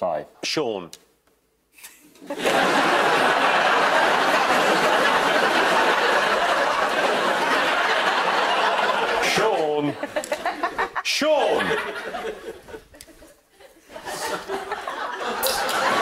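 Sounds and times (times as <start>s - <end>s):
audience laughing: 2.2s - 16.0s.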